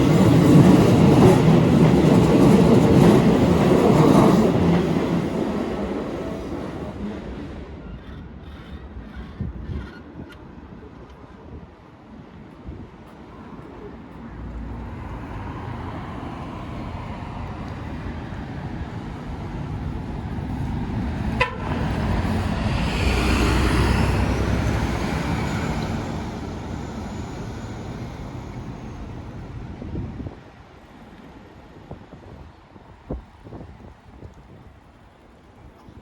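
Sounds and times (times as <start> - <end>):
train rumble passing: 0.0 - 36.0.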